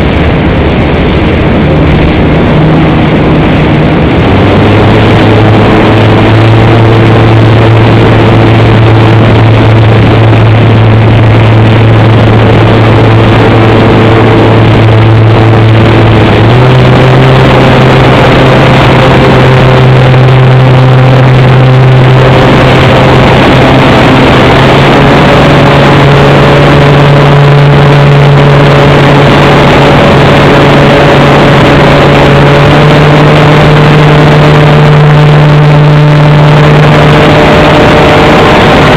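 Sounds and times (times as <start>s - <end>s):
electric motor and propeller humming: 0.0s - 38.9s
rush of air: 0.0s - 38.9s.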